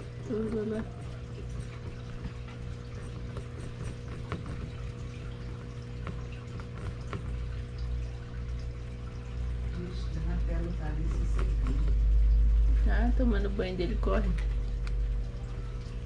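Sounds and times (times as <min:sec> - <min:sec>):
rabbit nibbling chew toy: 0:00.0 - 0:16.0
steady low hum: 0:00.0 - 0:16.0.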